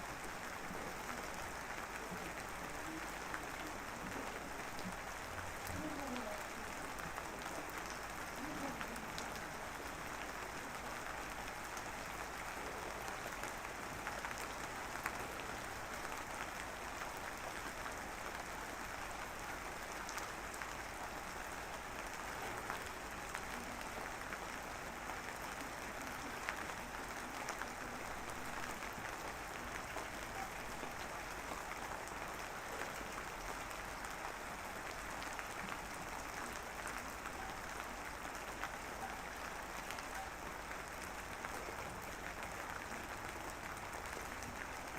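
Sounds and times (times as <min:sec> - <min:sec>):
light rain pattering: 0:00.0 - 0:44.9.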